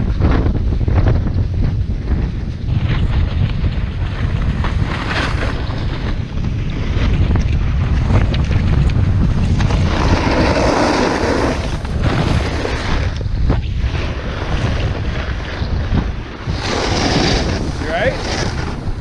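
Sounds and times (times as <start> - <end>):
wind rumbling on microphone: 0.0 - 19.0
snowboard sliding on snow: 0.2 - 7.2, 7.8 - 19.0.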